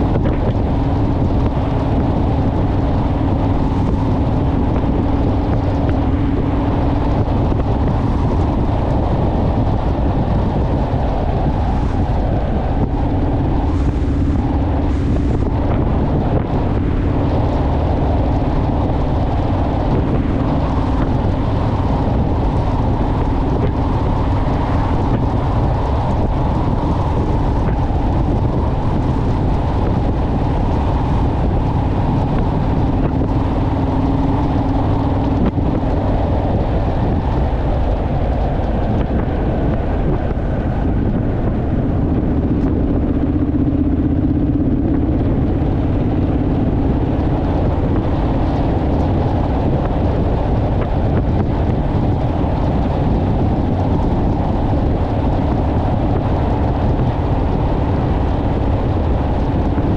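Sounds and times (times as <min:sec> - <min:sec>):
motorcycle engine cruising: 0:00.0 - 0:59.9
wind rumbling over microphone: 0:00.0 - 0:59.9.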